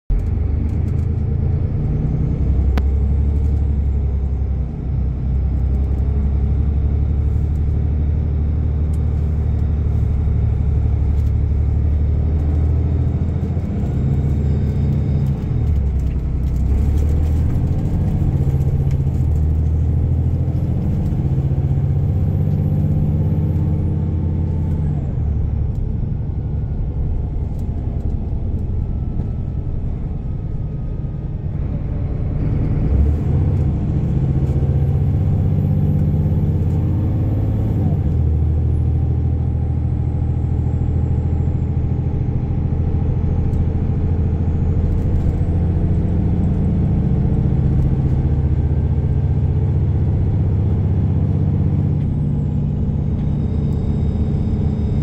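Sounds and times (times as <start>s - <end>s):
coach engine drone: 0.1s - 55.0s
road rumble: 0.1s - 55.0s.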